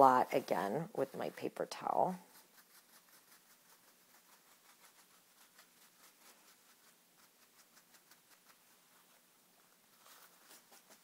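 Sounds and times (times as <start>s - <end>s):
paper towel dabbing on paper: 0.0s - 11.0s.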